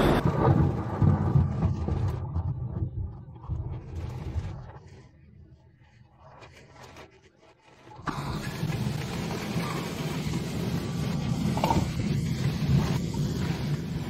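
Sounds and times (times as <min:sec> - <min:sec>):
rain: 0:00.0 - 0:14.0.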